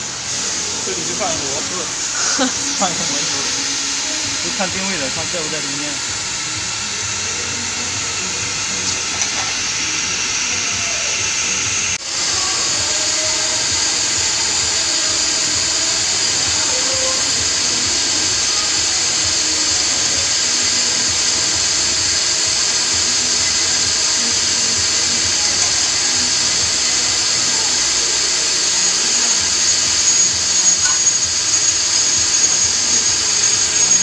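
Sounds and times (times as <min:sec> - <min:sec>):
workshop machinery hissing: 0:00.0 - 0:34.0.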